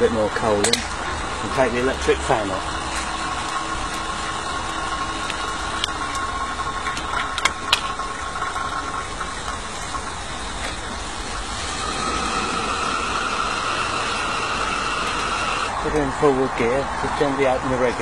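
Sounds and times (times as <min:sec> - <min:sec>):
steam hissing: 0:00.0 - 0:17.4.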